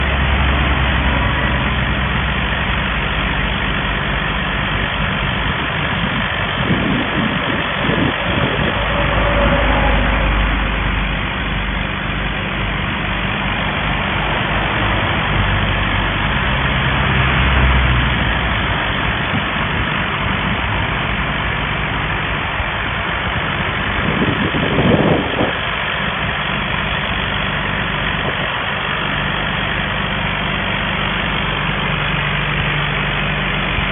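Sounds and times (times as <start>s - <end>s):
noisy rush: 0.0s - 27.4s
engine drone: 0.0s - 33.9s.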